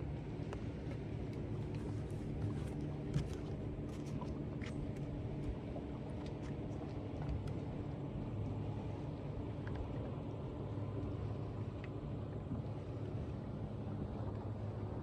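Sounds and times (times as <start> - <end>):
faint steady hum: 0.0 - 15.0
wind and water rumble: 0.0 - 15.0.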